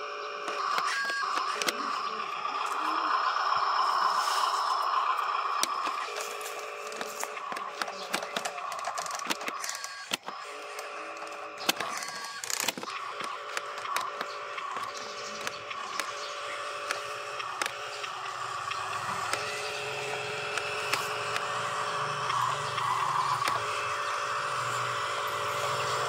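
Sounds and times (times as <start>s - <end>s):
small electric motors whining: 0.0s - 26.0s
sharp clicks and crunches: 0.4s - 2.8s, 4.8s - 26.0s.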